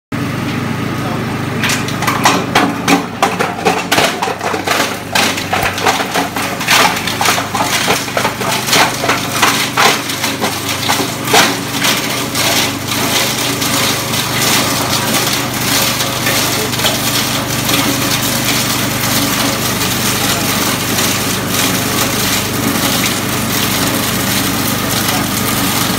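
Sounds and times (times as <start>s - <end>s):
shredder motor hum: 0.2s - 25.9s.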